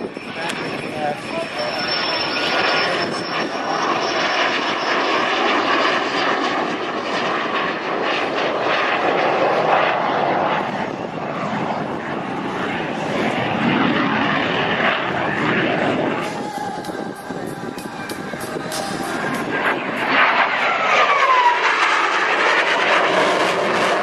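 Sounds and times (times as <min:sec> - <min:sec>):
airplane engine in flight: 0:00.0 - 0:24.0.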